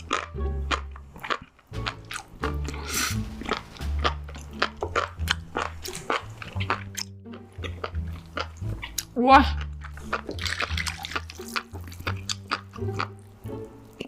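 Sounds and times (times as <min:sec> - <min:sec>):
background music with bass notes: 0:00.0 - 0:14.0
crunchy biting and chewing: 0:00.0 - 0:14.0.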